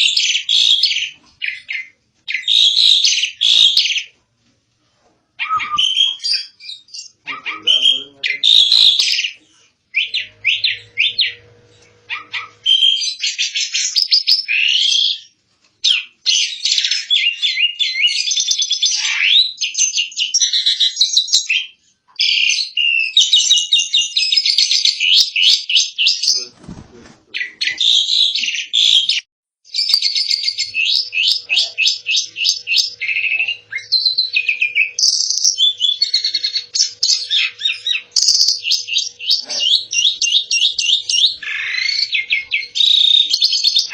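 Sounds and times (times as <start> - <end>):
starling singing: 0.0 - 4.2, 5.4 - 43.9.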